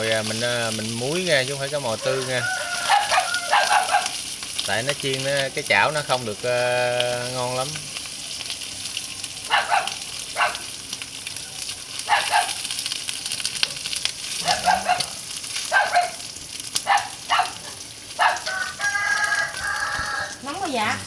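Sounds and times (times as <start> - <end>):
oil sizzling in a wok: 0.0 - 21.0.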